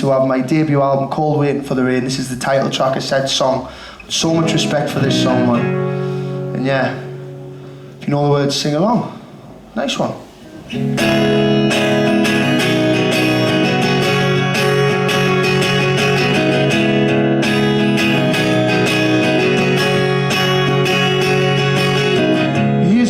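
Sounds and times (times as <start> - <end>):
guitar strumming chords: 2.4 - 23.0.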